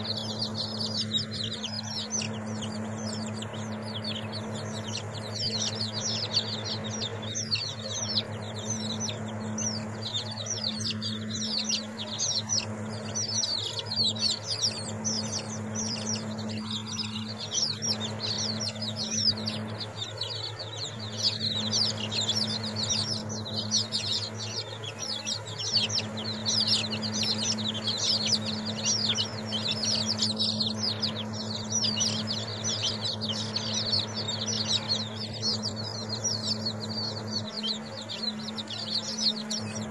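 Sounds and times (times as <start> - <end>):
chicks peeping: 0.0 - 39.9
steady low hum: 0.0 - 39.9.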